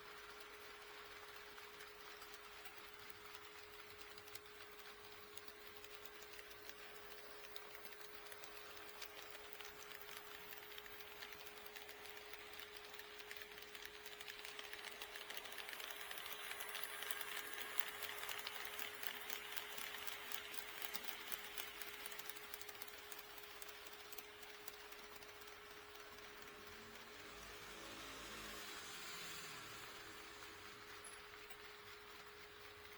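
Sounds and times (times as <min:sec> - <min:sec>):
model train motor whirring: 0:00.0 - 0:32.9.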